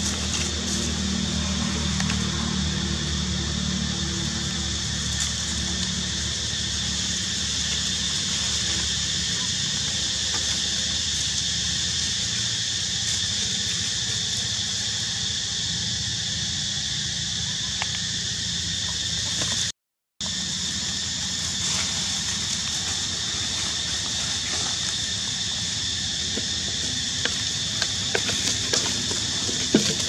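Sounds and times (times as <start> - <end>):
high-pitched drone and hiss: 0.0 - 30.0.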